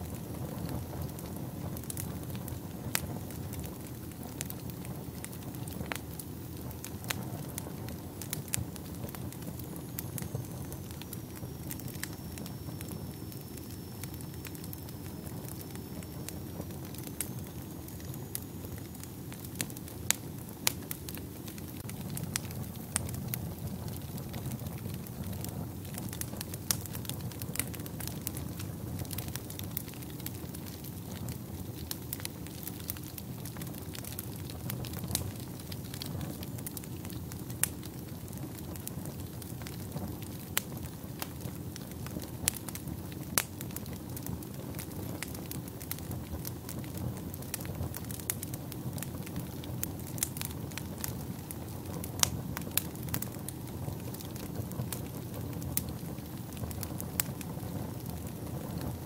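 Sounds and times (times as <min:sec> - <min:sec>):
fire crackles and pops: 0:00.0 - 0:59.0
low rumble of flames: 0:00.0 - 0:59.0.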